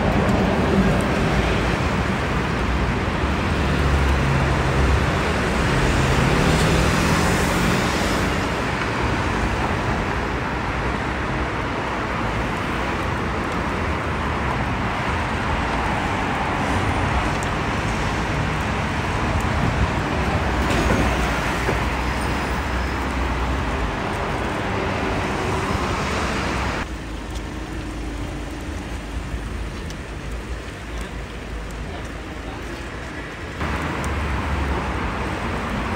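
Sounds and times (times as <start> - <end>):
cars and buses driving past: 0.0 - 35.9.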